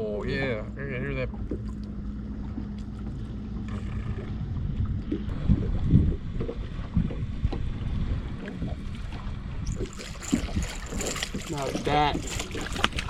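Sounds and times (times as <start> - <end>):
wind rumbling on microphone: 1.3 - 13.0.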